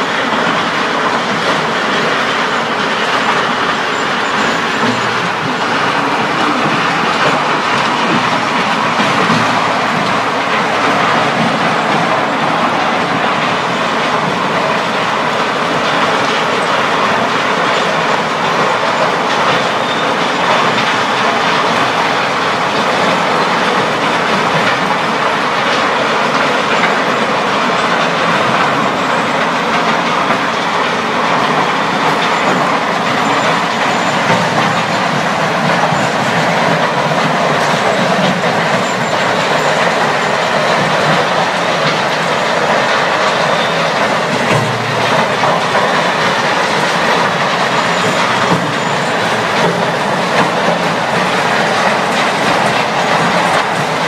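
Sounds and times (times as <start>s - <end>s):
machinery and conveyor din: 0.0s - 54.0s.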